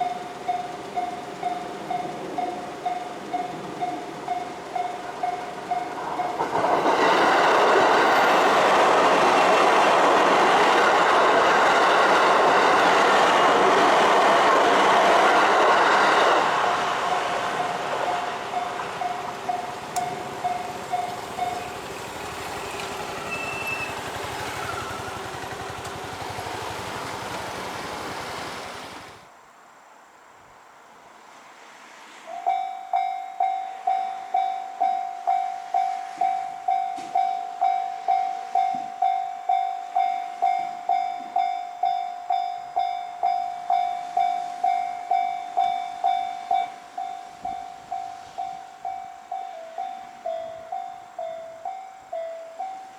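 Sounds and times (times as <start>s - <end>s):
level crossing warning bell: 0.0s - 29.0s, 32.3s - 52.9s
train running past: 0.0s - 29.3s, 31.2s - 52.9s.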